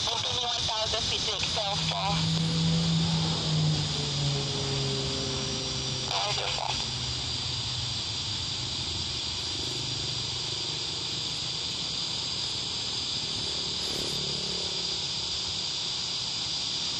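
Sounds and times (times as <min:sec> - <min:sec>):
steady high-pitched hiss: 0:00.0 - 0:16.9.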